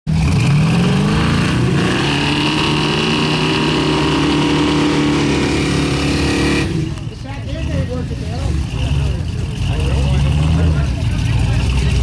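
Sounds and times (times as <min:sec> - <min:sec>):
truck engine revving hard: 0:00.1 - 0:12.0.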